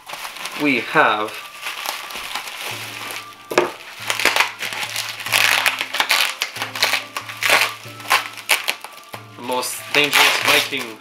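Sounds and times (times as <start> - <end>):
background music with low notes: 0.0 - 11.0
bubble wrap crinkling: 0.0 - 11.0.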